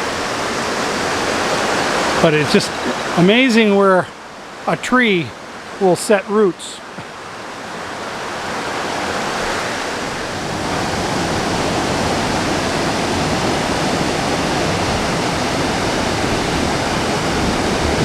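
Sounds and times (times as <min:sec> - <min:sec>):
fast water rushing: 0:00.0 - 0:18.0.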